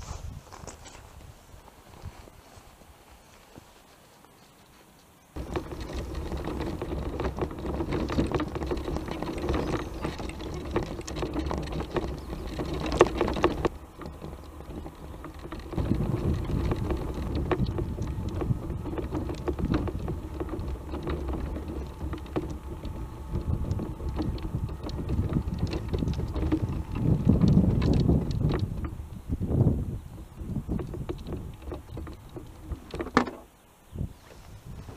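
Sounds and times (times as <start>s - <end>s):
tyres crackling over stones: 4.6s - 33.6s
mobility scooter electric drive: 5.3s - 34.9s.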